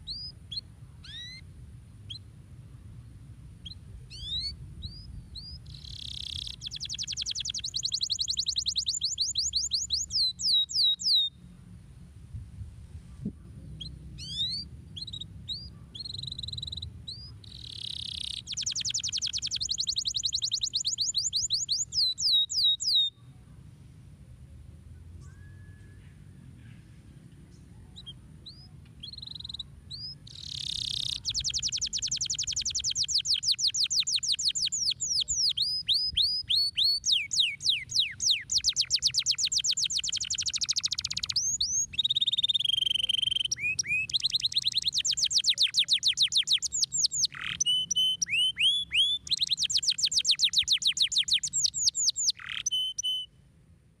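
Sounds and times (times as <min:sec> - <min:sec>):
canary singing: 0:00.0 - 0:01.4, 0:03.6 - 0:11.4, 0:13.8 - 0:23.2, 0:27.8 - 0:53.3.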